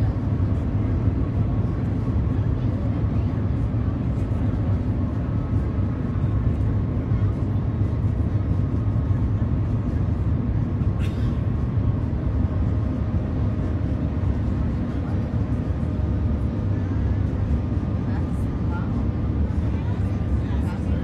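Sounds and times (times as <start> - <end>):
train cabin low rumble: 0.0 - 21.0.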